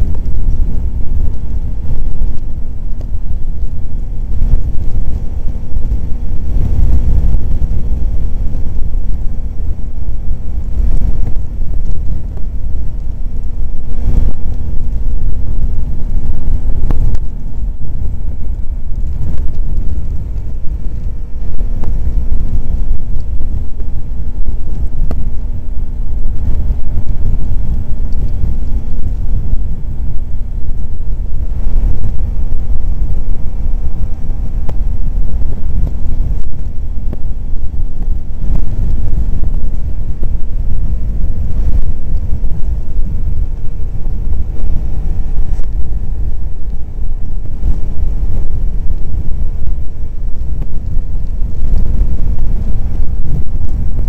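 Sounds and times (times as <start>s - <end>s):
low wind rumble on microphone: 0.0s - 54.0s.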